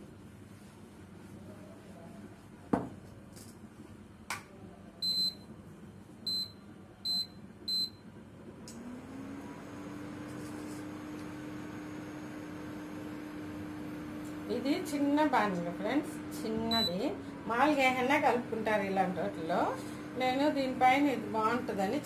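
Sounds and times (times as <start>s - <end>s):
cooktop heating hum: 0.0s - 22.0s.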